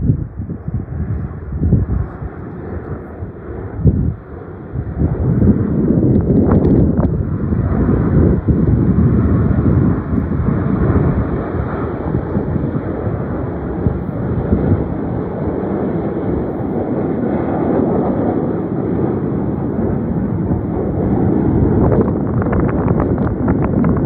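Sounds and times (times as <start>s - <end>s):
distant jet aircraft rumble: 0.0s - 24.0s
wind buffeting microphone: 0.0s - 24.0s.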